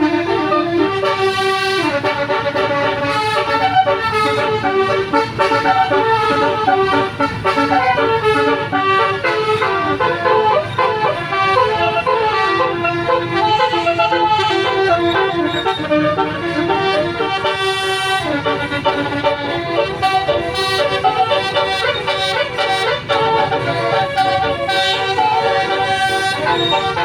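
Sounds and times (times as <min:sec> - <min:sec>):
bus engine rumble: 0:00.0 - 0:27.0
multi-tone air horn melody: 0:00.0 - 0:27.0.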